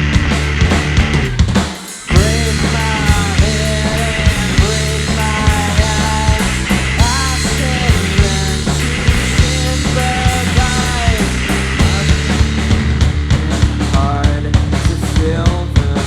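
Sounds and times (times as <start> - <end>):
distorted punk rock band playing: 0.0 - 16.0
drum hits: 0.0 - 16.0.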